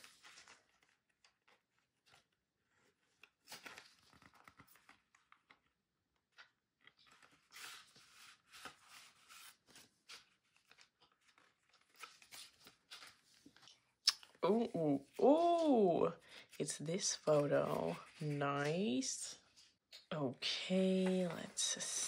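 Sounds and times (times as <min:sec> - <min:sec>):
paper and cardboard rustling: 0:00.0 - 0:05.7, 0:06.3 - 0:19.8, 0:20.8 - 0:22.0.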